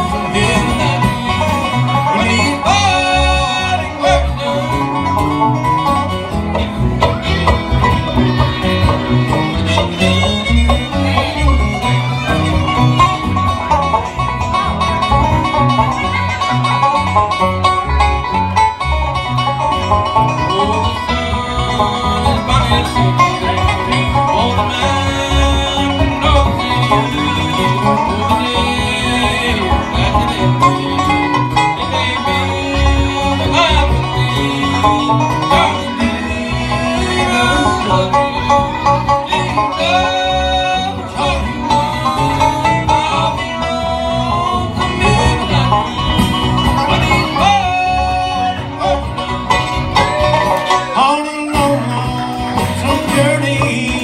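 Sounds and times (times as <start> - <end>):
bluegrass band playing: 0.0 - 54.0.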